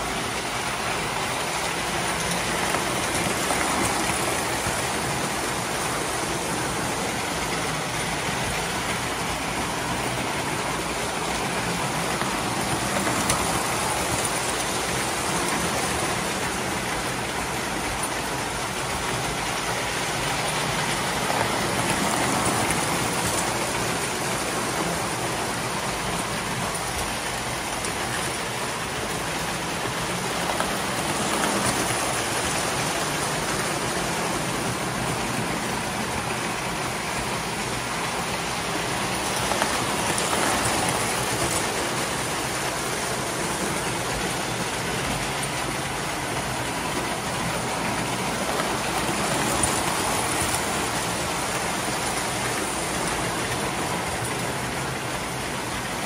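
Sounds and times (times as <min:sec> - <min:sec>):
model train wheels rumbling on rails: 0:00.0 - 0:56.0.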